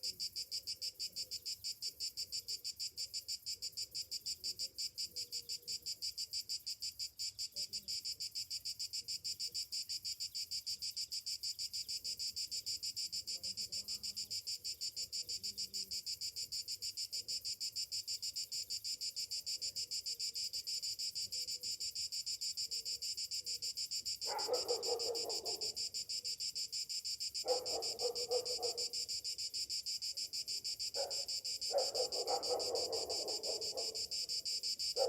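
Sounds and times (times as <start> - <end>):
cicadas pulsed buzzing: 0.0 - 35.0.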